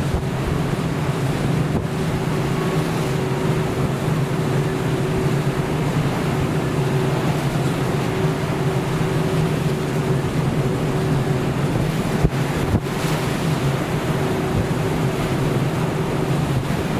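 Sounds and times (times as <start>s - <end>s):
ship engine droning: 0.0s - 16.9s
wind and water rushing: 0.0s - 16.9s.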